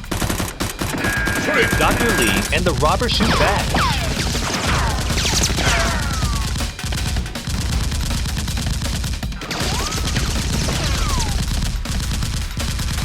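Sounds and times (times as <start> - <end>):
rapid gunfire: 0.0 - 13.0.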